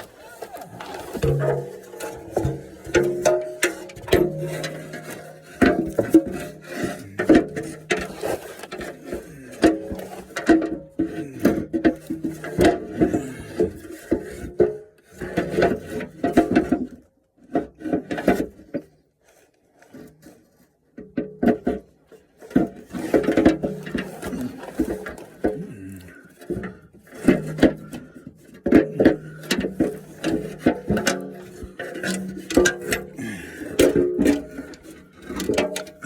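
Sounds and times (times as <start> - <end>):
metal knocking and scraping: 0.0 - 17.0, 21.0 - 36.0.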